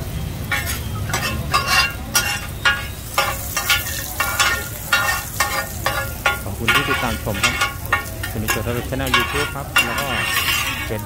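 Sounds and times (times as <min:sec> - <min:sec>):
food sizzling in a pan: 0:00.0 - 0:11.0
metal spatula scraping a pan: 0:00.4 - 0:11.0.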